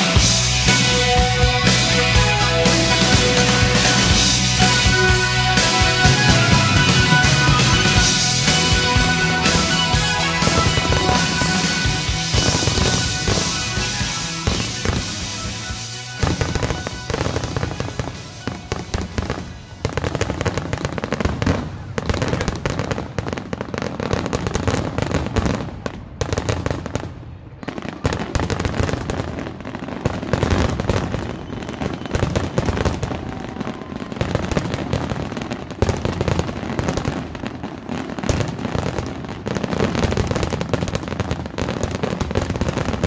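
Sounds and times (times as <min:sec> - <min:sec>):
fireworks bursting and crackling: 0:00.0 - 0:43.0.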